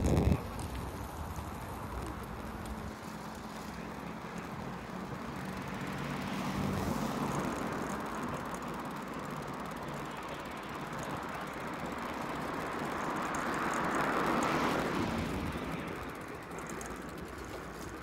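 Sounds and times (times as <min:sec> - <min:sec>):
vehicles driving past: 0:00.0 - 0:18.0.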